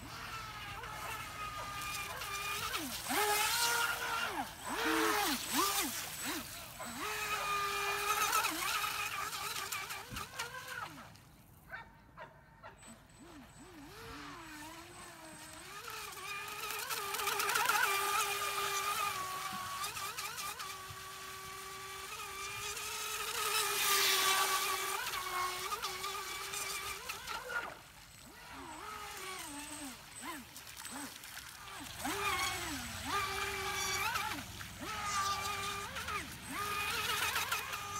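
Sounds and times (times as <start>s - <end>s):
model boat motor whining: 0.0s - 37.9s.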